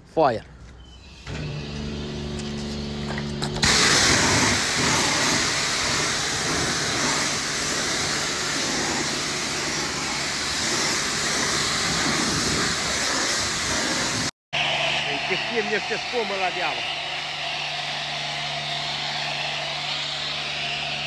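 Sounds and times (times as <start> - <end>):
pressure washer spraying water: 1.2 - 21.0.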